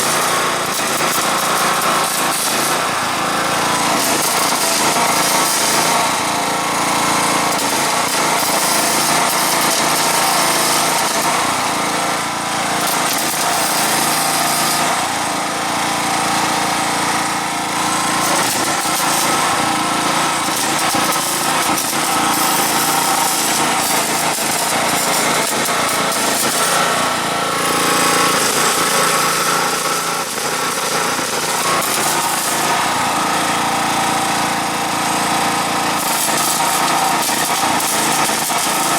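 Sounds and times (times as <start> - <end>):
welding equipment buzzing: 0.0 - 38.9.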